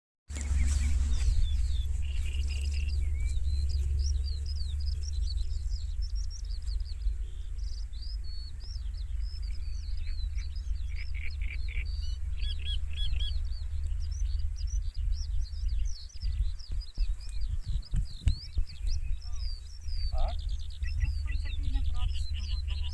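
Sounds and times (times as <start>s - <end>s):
low bumps: 0.3s - 22.9s
low rumble: 0.3s - 22.9s
small birds chirping: 0.3s - 22.9s.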